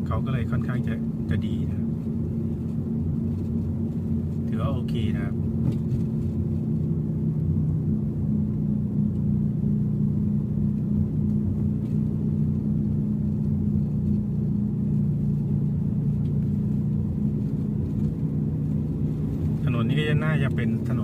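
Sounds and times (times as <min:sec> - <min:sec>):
car engine and road drone: 0:00.0 - 0:21.0.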